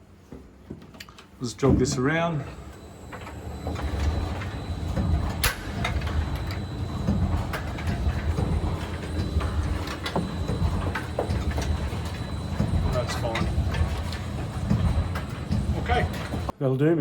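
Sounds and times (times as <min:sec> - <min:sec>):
machine rumbling: 0:01.6 - 0:16.5
clicks and knocks: 0:02.5 - 0:16.5.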